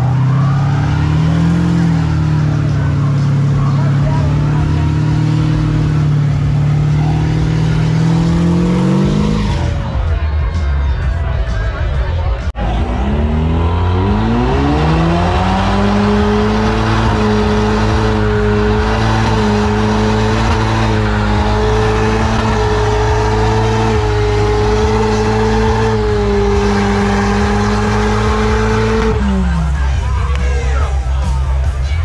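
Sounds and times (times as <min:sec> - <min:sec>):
tires squealing on pavement: 0:00.0 - 0:10.3, 0:12.6 - 0:32.0
car engine revving: 0:00.0 - 0:32.0.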